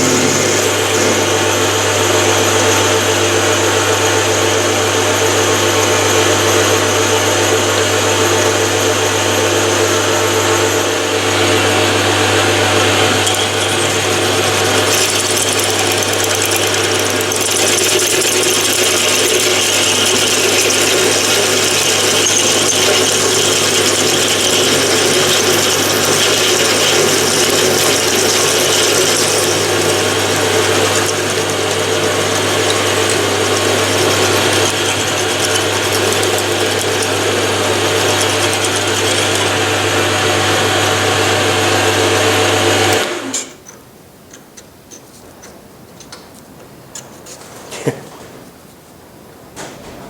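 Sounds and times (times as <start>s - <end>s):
drill cutting steel: 0.0s - 43.4s
metal lathe running: 0.0s - 43.4s.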